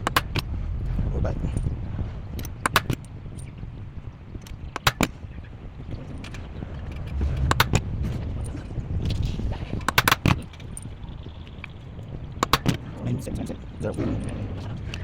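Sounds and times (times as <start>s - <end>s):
motorcycle engine rumbling: 0.0s - 15.0s
sharp clicks and knocks: 0.0s - 15.0s.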